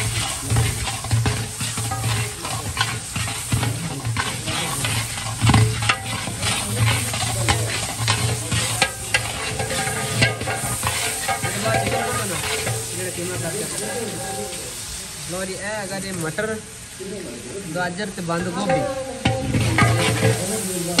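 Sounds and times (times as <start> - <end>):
metal ladle scraping pot: 0.0 - 14.8, 18.4 - 21.0
meat sizzling in oil: 0.0 - 21.0.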